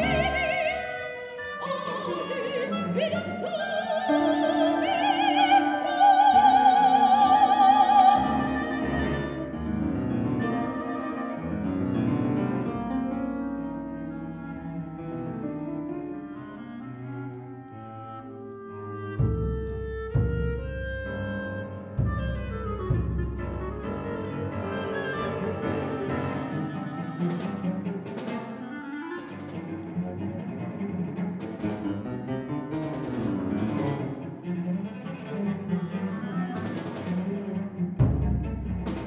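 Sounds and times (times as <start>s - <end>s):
cello lines: 0.0s - 39.0s
chamber music ensemble: 0.0s - 39.0s.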